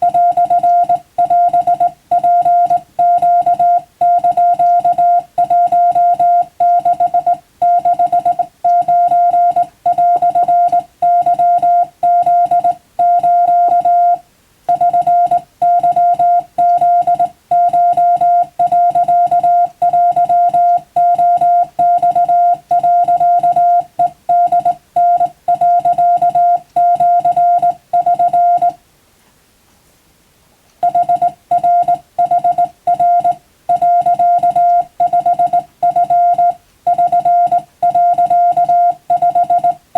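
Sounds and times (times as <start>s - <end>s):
morse code beeping: 0.0s - 28.8s, 30.8s - 39.8s.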